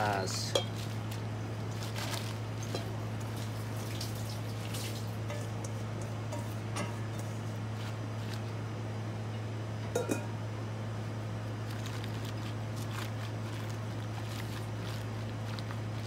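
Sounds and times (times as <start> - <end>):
soft wet rustling: 0.0 - 8.6, 11.6 - 16.0
steady low hum: 0.0 - 16.0.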